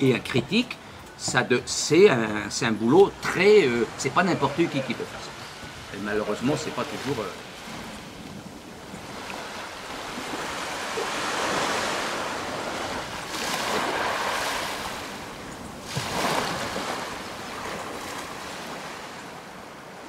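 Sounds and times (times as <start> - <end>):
small waves breaking on beach: 3.4 - 20.0.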